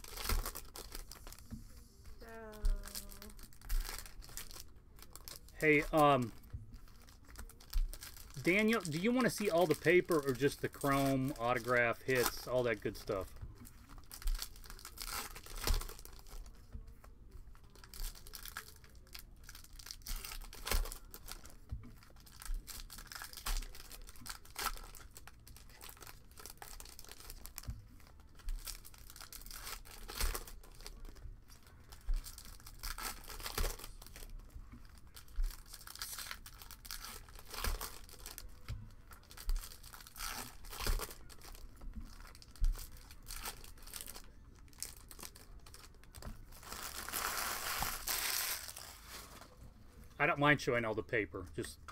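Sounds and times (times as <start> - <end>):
foil wrappers crinkling and tearing: 0.0 - 1.5, 2.2 - 16.6, 17.6 - 49.6.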